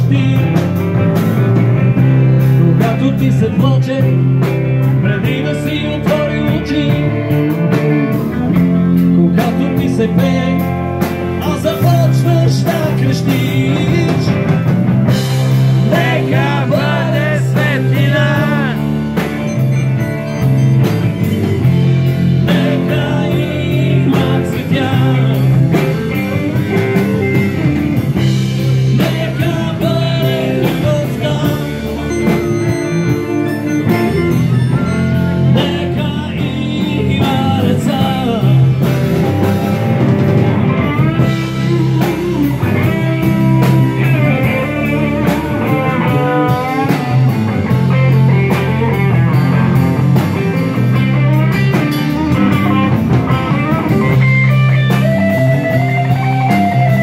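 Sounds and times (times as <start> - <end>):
loud rock music with singing: 0.0 - 57.0.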